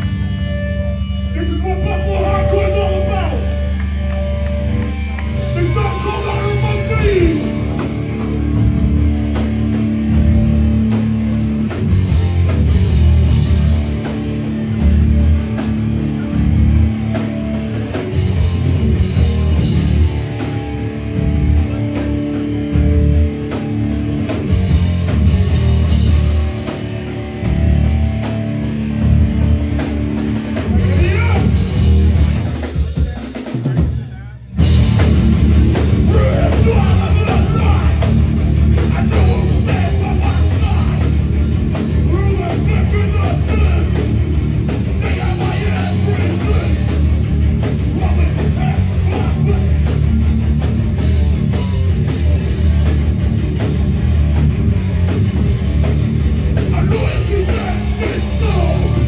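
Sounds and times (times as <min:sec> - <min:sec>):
live hardcore band: 0:00.0 - 0:59.0
bass drum: 0:03.5 - 0:59.0.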